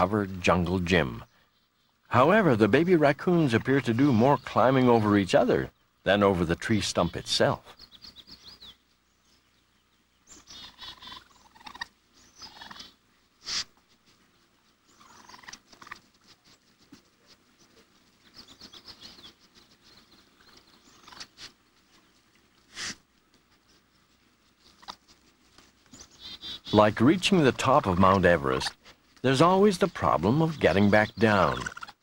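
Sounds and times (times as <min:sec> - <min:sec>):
baby raccoons chirping: 0:00.0 - 0:32.0.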